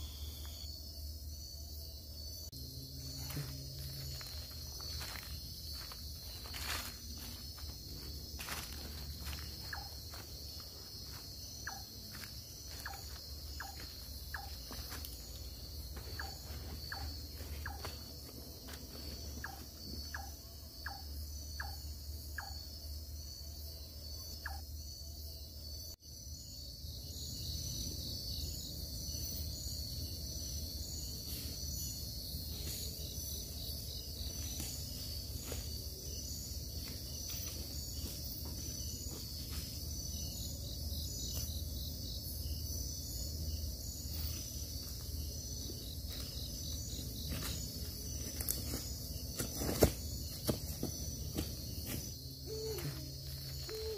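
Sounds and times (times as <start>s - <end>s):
insect chorus: 0.0s - 53.9s.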